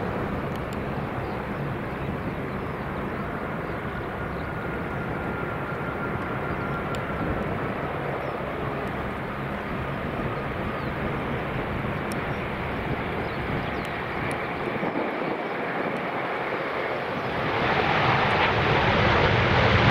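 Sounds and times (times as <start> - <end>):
jet engine rushing: 0.0 - 19.9.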